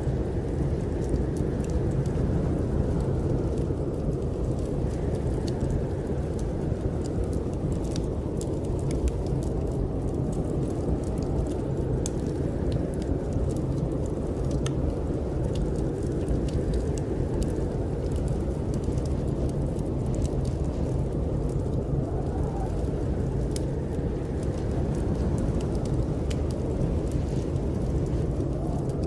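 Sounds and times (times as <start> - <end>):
fire crackling and popping: 0.0 - 29.0
wind blowing low: 0.0 - 29.0.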